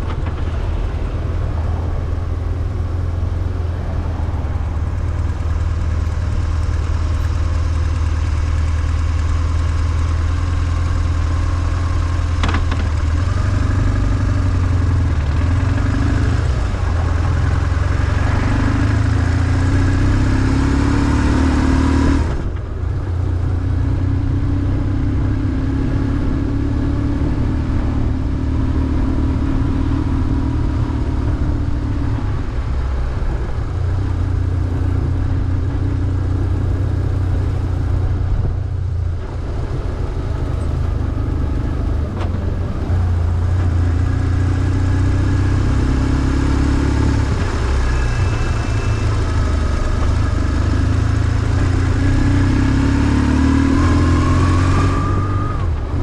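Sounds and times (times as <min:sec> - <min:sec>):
motorcycle engine running: 0:00.0 - 0:56.0
street traffic: 0:00.0 - 0:56.0.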